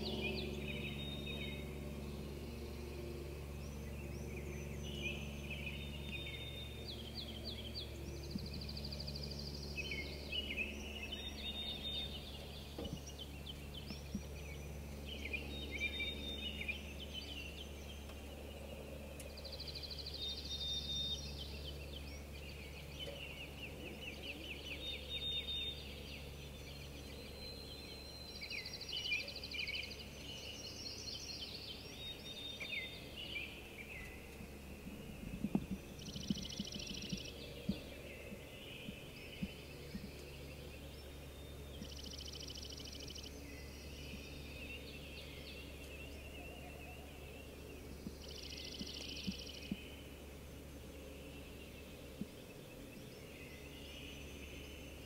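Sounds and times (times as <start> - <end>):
low background rumble: 0.0 - 55.0
songbirds singing: 0.0 - 55.0.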